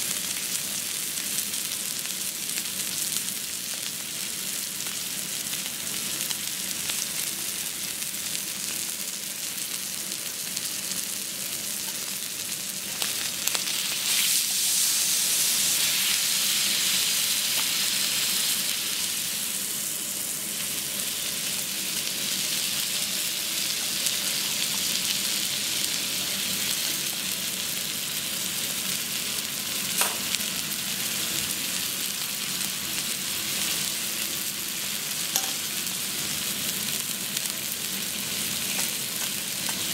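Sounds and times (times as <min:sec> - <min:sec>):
beef sizzling on griddle: 0:00.0 - 0:39.9.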